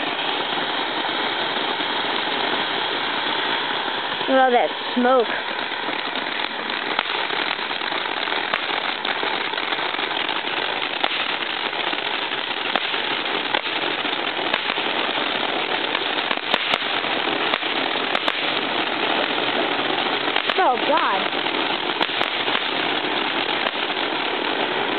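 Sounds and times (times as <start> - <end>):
firework hissing: 0.0 - 24.9
firework pops: 0.0 - 24.9.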